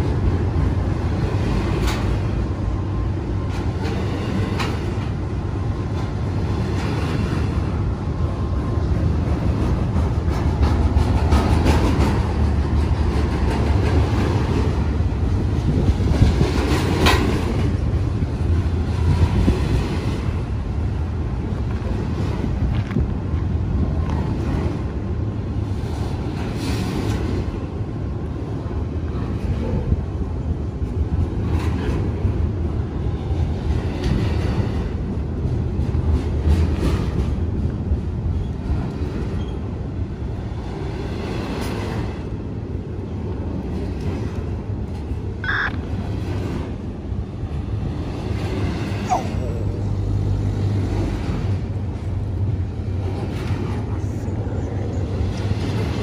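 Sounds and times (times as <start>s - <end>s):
train clattering: 0.0s - 56.0s
train wheels rumbling on rails: 0.0s - 56.0s.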